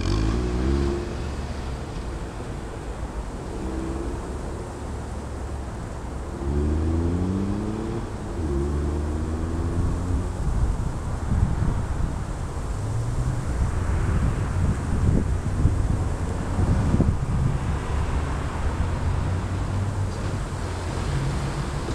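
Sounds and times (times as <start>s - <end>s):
car engine idling and revving: 0.0s - 21.9s
wind rumbling on microphone: 0.0s - 21.9s.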